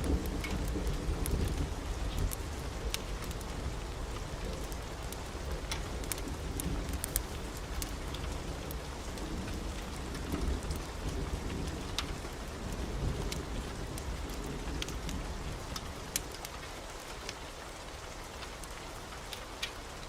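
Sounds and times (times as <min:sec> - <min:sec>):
thunder rumbling: 0:00.0 - 0:16.2
heavy rain: 0:00.0 - 0:20.0.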